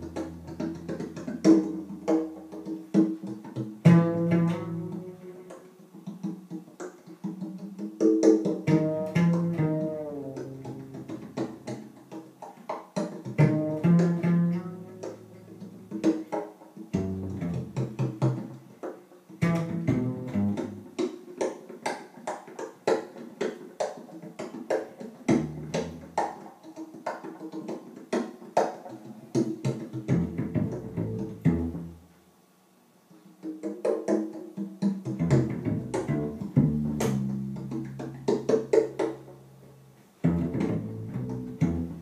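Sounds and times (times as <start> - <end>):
plucked double bass: 0.0 - 27.9, 29.0 - 32.1, 33.4 - 42.0.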